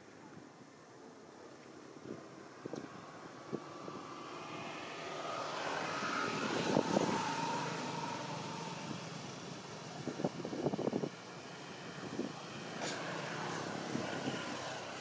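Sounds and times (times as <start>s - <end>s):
passing vehicle engine: 2.5s - 15.0s.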